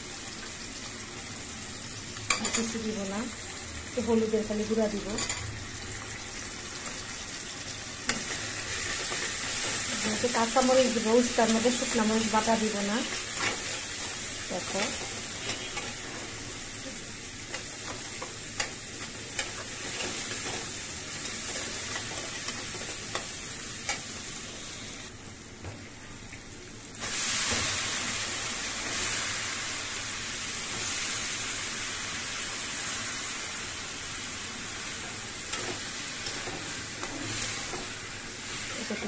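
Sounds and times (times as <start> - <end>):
food sizzling in hot oil: 0.0 - 25.2, 25.9 - 39.0.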